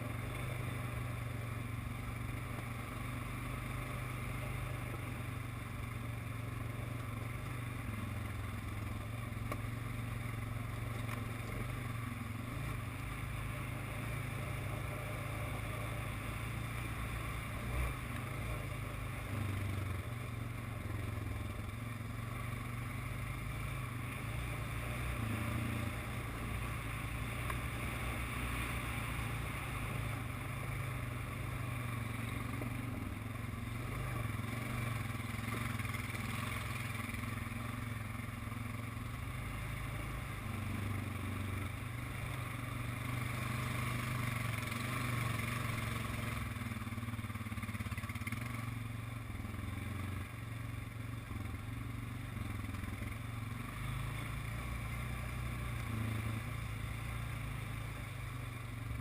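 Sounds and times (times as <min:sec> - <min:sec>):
atv engine droning: 0:00.0 - 0:59.0.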